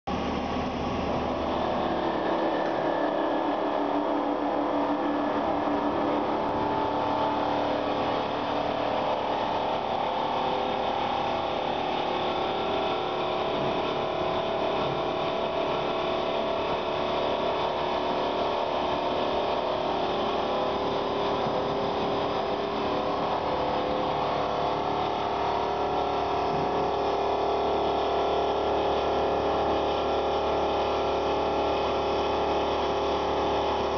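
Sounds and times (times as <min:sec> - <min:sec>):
polishing machine whirring: 0:00.2 - 0:33.9.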